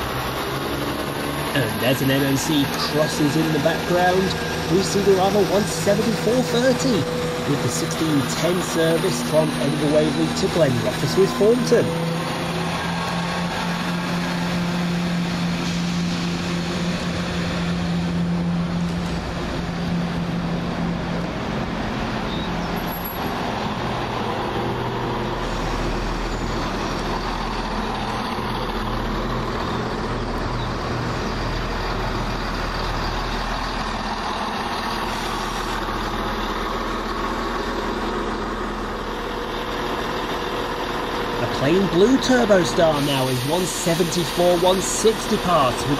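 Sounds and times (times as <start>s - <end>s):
train diesel engines running: 0.0s - 45.9s.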